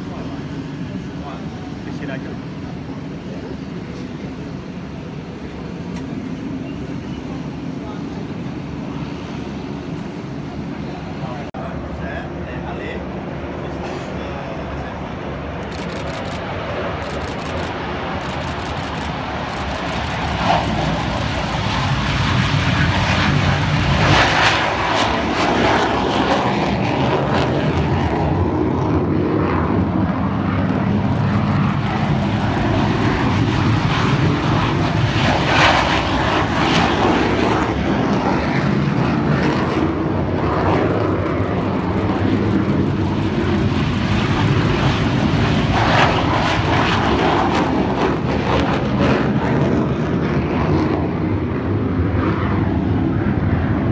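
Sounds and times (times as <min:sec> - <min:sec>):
aircraft engines droning: 0:00.0 - 0:53.9.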